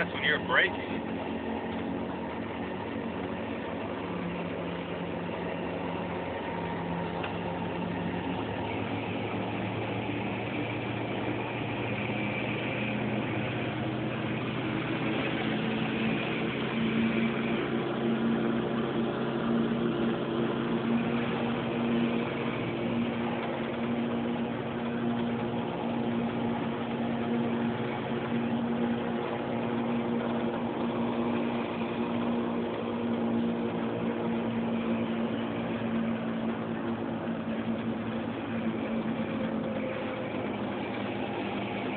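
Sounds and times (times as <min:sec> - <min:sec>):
steady hum tones: 0:00.0 - 0:41.9
vehicle road noise inside cab: 0:00.0 - 0:41.9.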